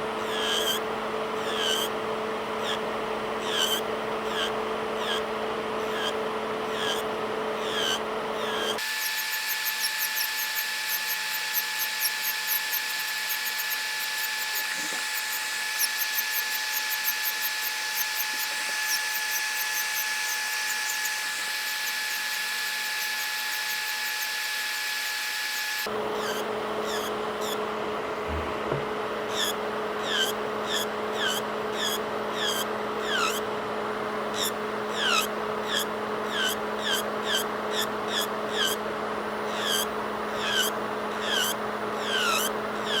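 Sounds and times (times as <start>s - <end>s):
electric nail drill whining: 0.0s - 27.7s, 29.3s - 33.5s, 34.3s - 43.0s.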